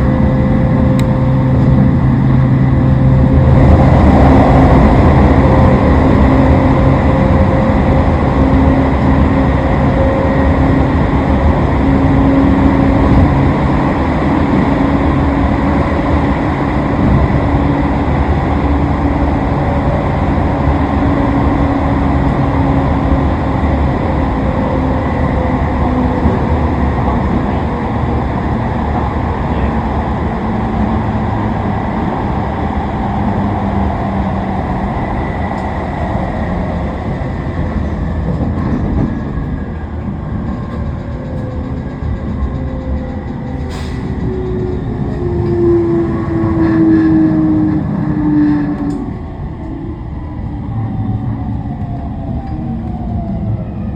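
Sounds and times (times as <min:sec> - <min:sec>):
train hum tones: 0:00.0 - 0:53.9
train wheels rumbling on rail: 0:00.0 - 0:53.9.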